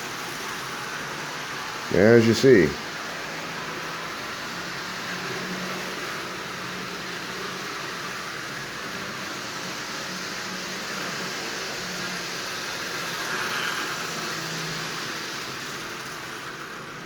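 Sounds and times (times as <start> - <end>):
toy train motor hum: 0.0 - 1.9, 2.8 - 17.0
wheels rattling on rails: 3.0 - 17.0.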